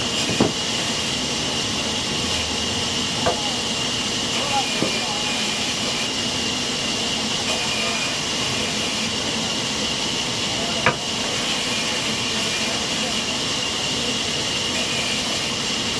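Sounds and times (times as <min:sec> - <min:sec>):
sawmill saw whining: 0:00.0 - 0:15.9.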